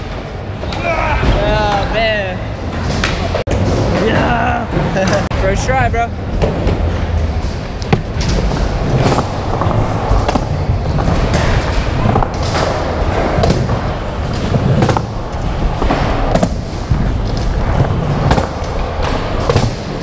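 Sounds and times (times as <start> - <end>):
skateboard wheels rolling on concrete: 0.0 - 20.0.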